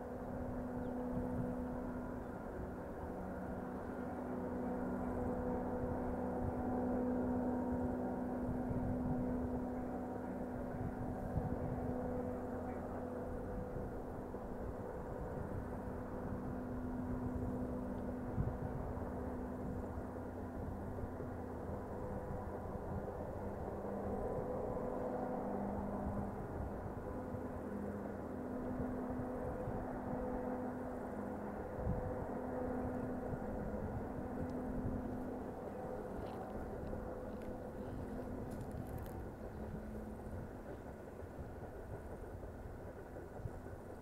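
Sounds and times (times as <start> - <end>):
diesel locomotive engine running: 0.0 - 44.0.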